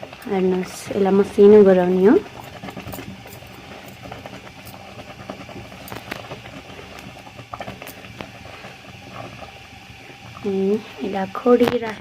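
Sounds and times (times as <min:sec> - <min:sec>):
low bubbling: 0:00.0 - 0:12.0.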